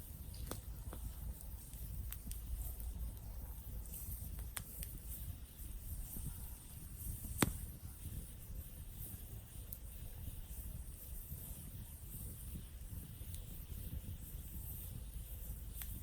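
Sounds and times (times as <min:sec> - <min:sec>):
burning wood popping: 0:00.0 - 0:16.0
campfire crackling: 0:00.0 - 0:16.0.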